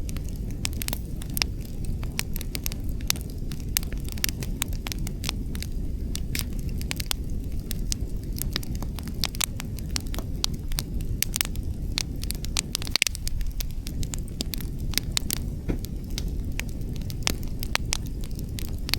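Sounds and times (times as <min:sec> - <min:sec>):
campfire crackling and popping: 0:00.0 - 0:18.9
low fire rumble: 0:00.0 - 0:18.9.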